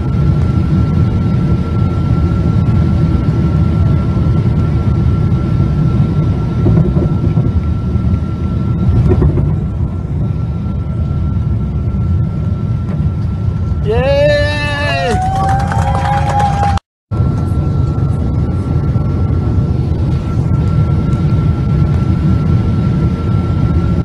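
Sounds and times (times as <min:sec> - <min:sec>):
aircraft engine low rumble: 0:00.0 - 0:24.0
thin steady whine: 0:00.0 - 0:24.0.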